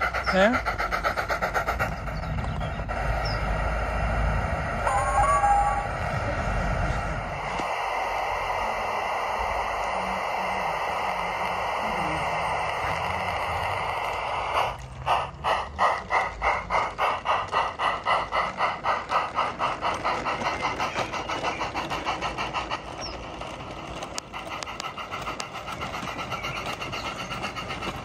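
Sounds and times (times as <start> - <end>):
steam hiss: 0.0 - 28.0
steam locomotive exhaust chuffs: 0.0 - 28.0.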